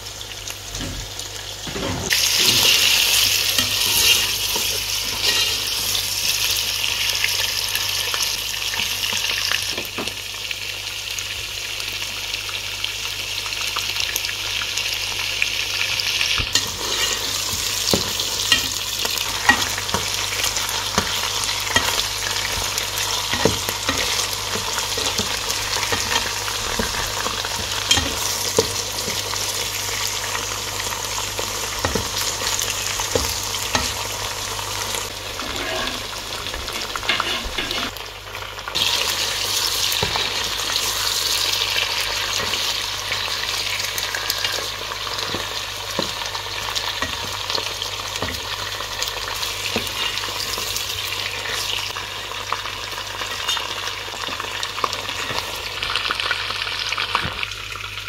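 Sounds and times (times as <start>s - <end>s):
chicken and onions sizzling in oil: 0.0s - 58.0s.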